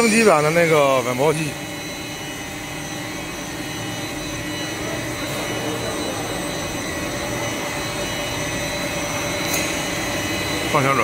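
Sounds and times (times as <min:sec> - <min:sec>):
constant high tones: 0:00.0 - 0:11.0
machine hum and rush: 0:00.0 - 0:11.0.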